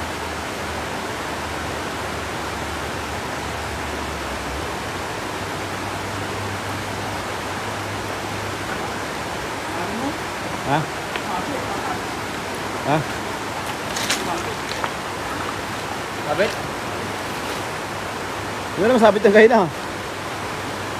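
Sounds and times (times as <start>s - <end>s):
river rushing over stones: 0.0s - 20.9s.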